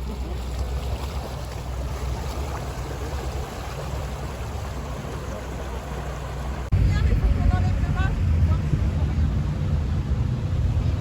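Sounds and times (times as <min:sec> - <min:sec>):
rush of water and wind: 0:00.0 - 0:11.0.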